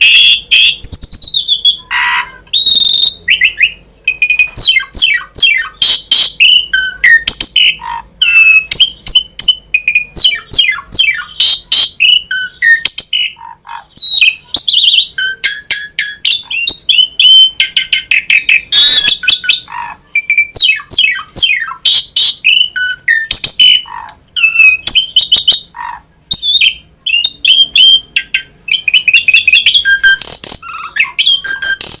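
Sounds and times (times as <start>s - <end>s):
starling singing: 0.0s - 32.0s.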